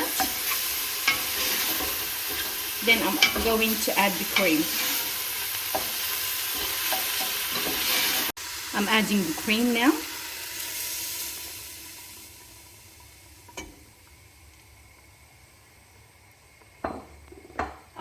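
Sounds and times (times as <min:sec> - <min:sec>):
cream sizzling in hot pan: 0:00.0 - 0:18.0.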